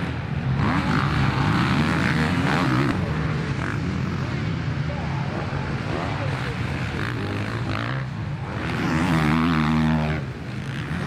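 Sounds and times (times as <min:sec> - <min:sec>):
motocross bike engine revving: 0:00.0 - 0:04.6, 0:05.6 - 0:11.0.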